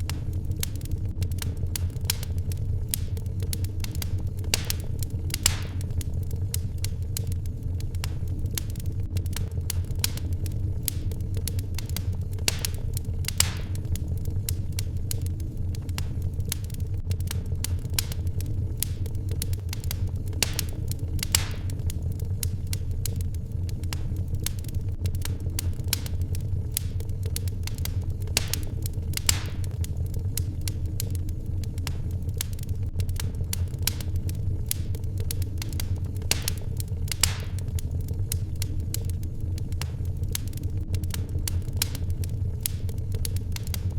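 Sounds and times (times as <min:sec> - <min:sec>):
fire hissing: 0:00.0 - 0:43.9
wood fire crackling: 0:00.0 - 0:43.9.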